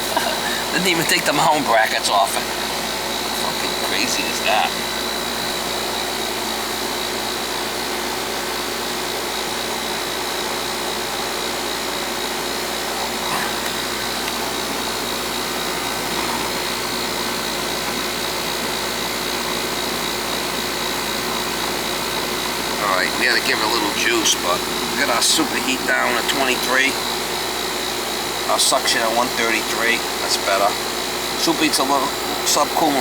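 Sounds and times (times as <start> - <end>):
air conditioner fan running: 0.0 - 33.0.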